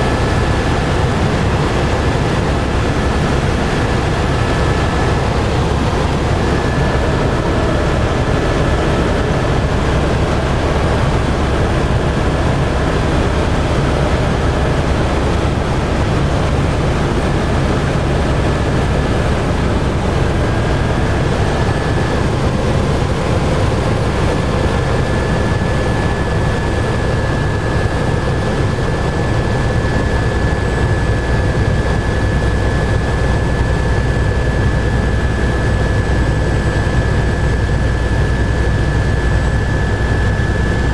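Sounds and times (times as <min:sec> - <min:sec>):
thin steady whine: 0:00.0 - 0:40.9.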